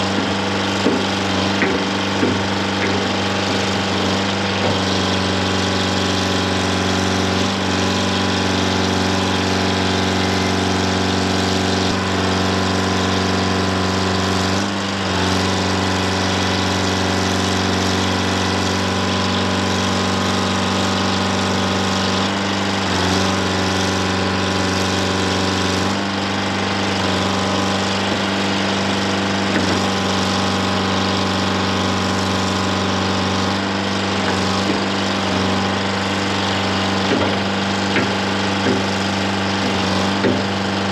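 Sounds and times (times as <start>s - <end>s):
backhoe digging: 0.0s - 40.9s
diesel engine running: 0.0s - 40.9s.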